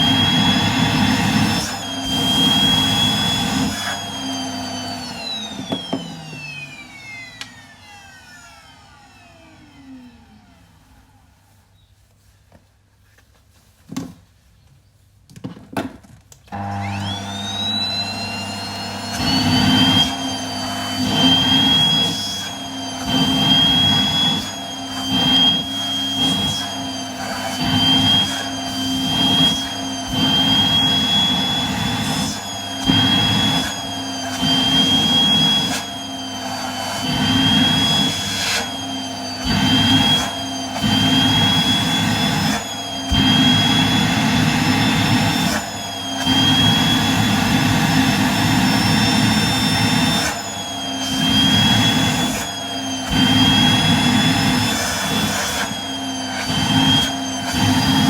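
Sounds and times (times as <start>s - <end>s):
vacuum cleaner motor whine: 0.0s - 11.7s, 16.5s - 58.0s.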